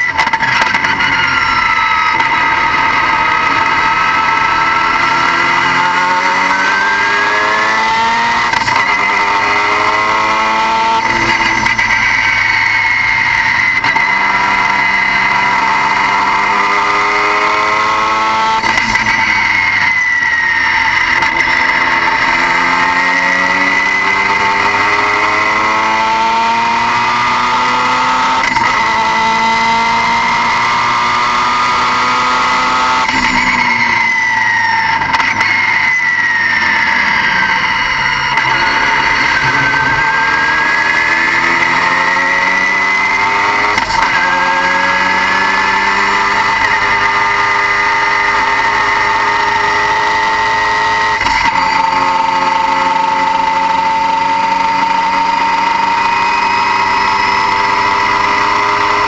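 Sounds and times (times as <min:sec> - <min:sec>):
car engine accelerating: 0:00.0 - 0:59.0
high-pitched whine: 0:00.0 - 0:59.0.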